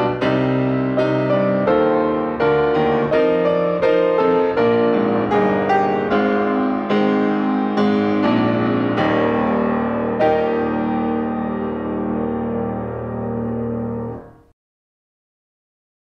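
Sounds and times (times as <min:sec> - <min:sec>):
slow piano chords: 0:00.0 - 0:14.5.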